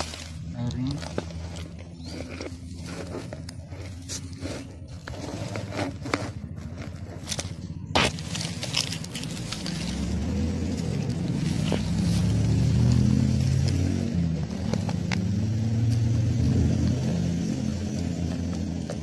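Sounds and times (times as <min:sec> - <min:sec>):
low engine rumble: 0:00.0 - 0:19.0
scrapes and clicks in leaf litter: 0:00.0 - 0:19.0.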